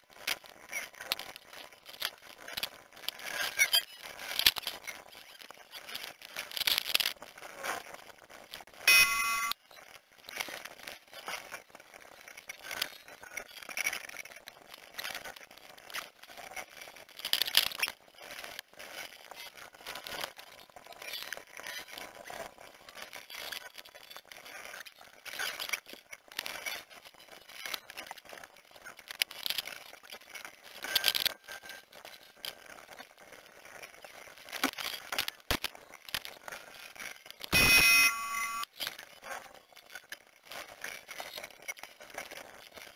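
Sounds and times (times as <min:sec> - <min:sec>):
high-pitched clicks and rattles: 0:00.1 - 0:42.9.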